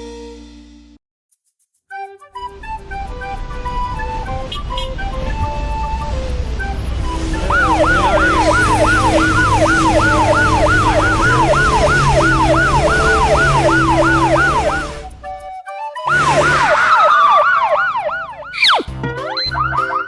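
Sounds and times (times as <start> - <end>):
cartoon siren: 2.8 - 15.3, 16.0 - 20.0.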